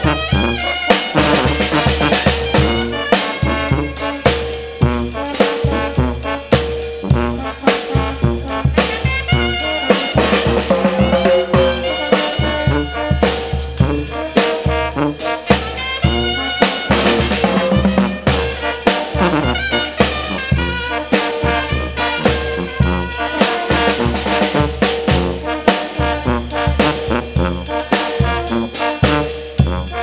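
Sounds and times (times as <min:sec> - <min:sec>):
bass and drum beat: 0:00.0 - 0:30.0
brass band playing: 0:00.0 - 0:30.0.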